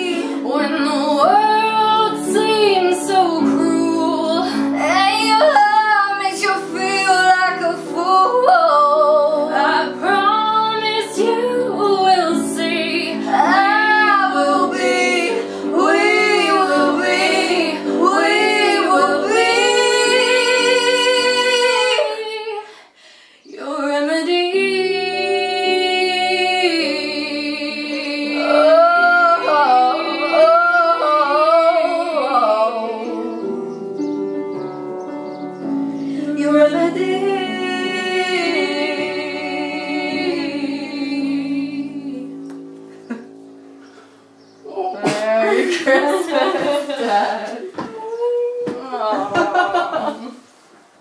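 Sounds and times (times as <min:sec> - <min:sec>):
two women singing in harmony: 0:00.0 - 0:34.1, 0:35.9 - 0:43.6, 0:44.7 - 0:50.4.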